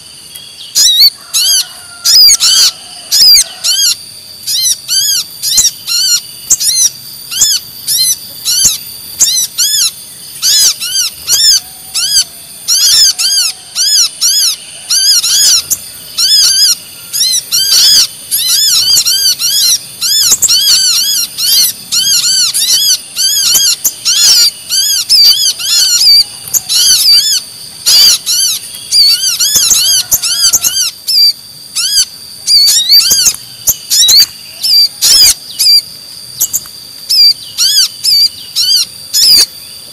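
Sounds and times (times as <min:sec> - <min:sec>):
rapid high-pitched bird chirps: 0:00.0 - 0:39.9
steady high ringing tone: 0:00.0 - 0:39.9.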